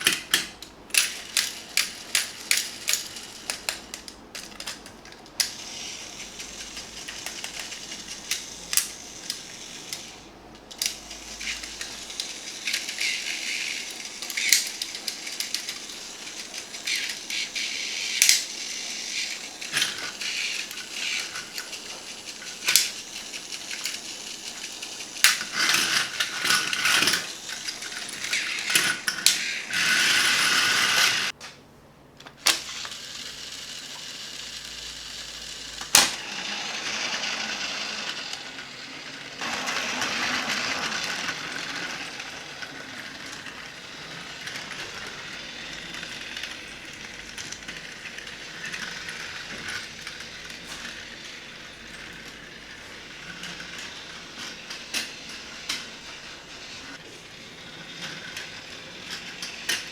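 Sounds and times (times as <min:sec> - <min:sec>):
toys clicking and rattling: 0:00.0 - 0:31.4, 0:32.4 - 0:59.9.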